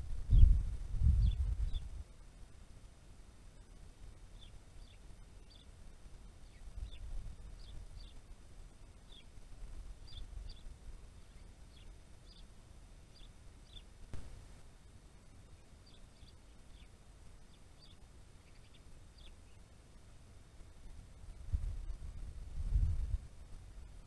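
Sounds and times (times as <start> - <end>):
small birds chirping: 0.0 - 2.2, 2.8 - 24.0
low outdoor rumble: 0.0 - 24.0.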